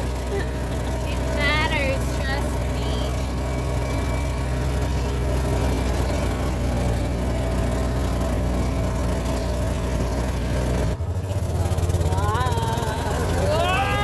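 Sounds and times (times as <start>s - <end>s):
rumble of vehicle over grass: 0.0s - 14.0s
vehicle engine humming: 0.0s - 14.0s.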